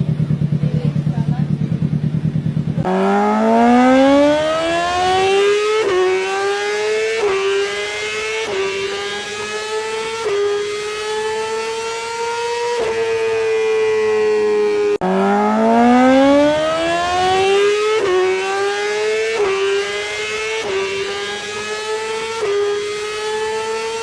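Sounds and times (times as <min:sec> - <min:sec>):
motorbike engine accelerating: 0:00.0 - 0:24.0.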